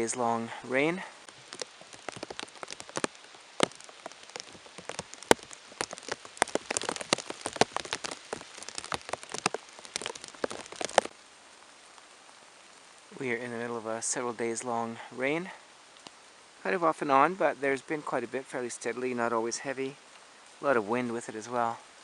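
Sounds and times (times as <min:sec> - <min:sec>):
rain drops tapping a surface: 0:00.0 - 0:22.0
soft steady rain hiss: 0:00.0 - 0:22.0.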